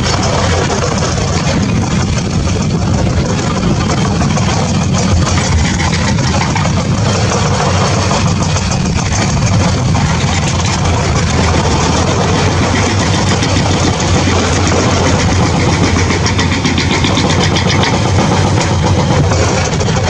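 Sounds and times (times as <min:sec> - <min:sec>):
engine humming with rattly hiss: 0:00.0 - 0:20.0.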